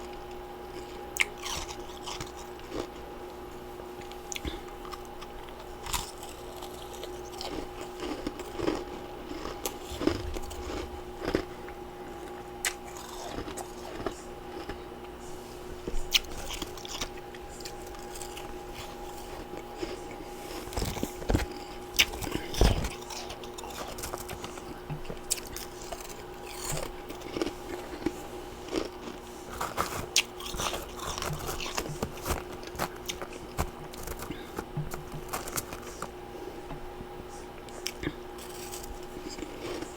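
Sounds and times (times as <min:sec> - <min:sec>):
chewing and crunching ice: 0:00.0 - 0:03.1, 0:04.0 - 0:15.2, 0:16.0 - 0:36.2, 0:37.8 - 0:39.9
faint steady hum: 0:00.0 - 0:39.9.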